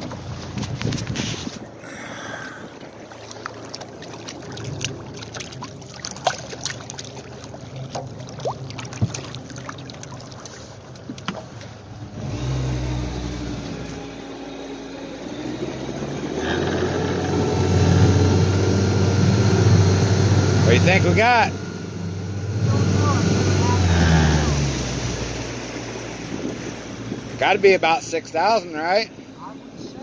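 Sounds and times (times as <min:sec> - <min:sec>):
outboard motor drone: 0:00.0 - 0:30.0
water slapping boat hull: 0:00.0 - 0:30.0.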